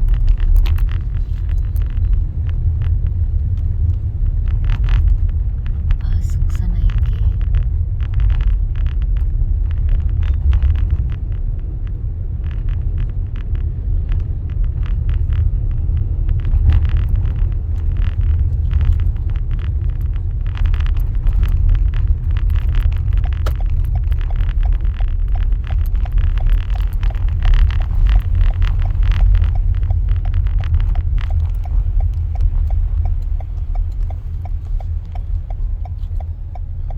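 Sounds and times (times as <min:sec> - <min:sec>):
car and tyres rumbling: 0:00.0 - 0:36.9.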